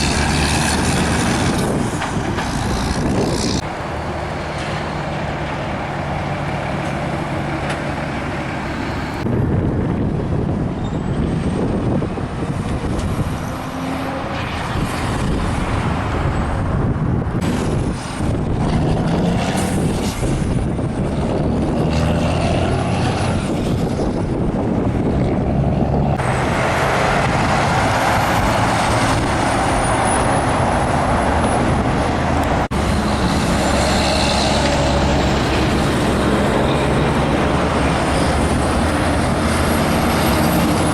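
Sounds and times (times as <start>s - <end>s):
heavy trucks driving past: 0.0s - 40.9s
tyre and road noise: 0.0s - 40.9s.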